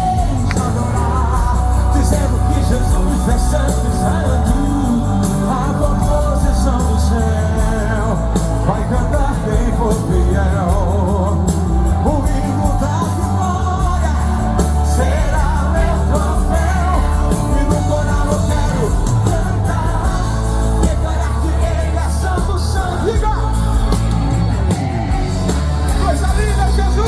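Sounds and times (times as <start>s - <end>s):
gospel band music with singing: 0.0s - 27.0s
heavy steady bass: 0.0s - 27.0s.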